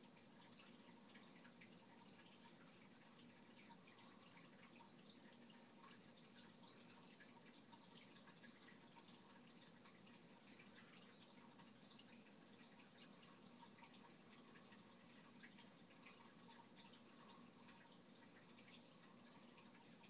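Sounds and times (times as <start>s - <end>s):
low steady hum: 0.0s - 20.0s
water drips and trickling: 0.0s - 20.0s.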